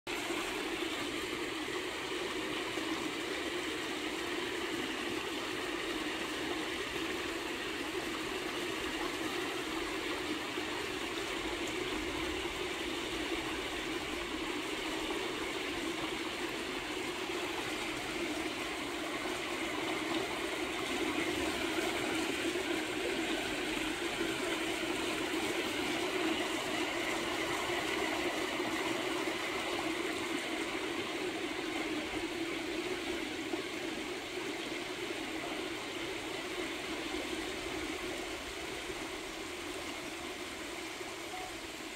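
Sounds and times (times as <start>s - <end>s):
mountain stream flowing: 0.1s - 41.9s.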